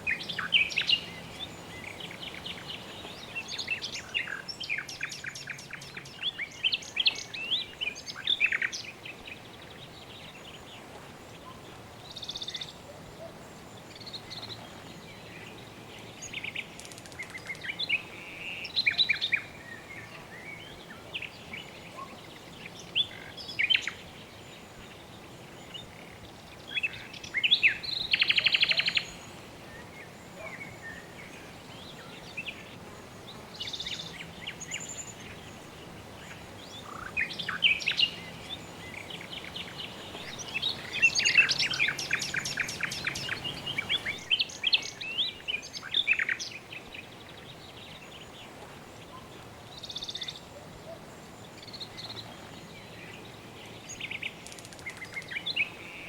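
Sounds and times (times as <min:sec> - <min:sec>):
birds chirping: 0:00.0 - 0:56.0
steady background hiss: 0:00.0 - 0:56.0.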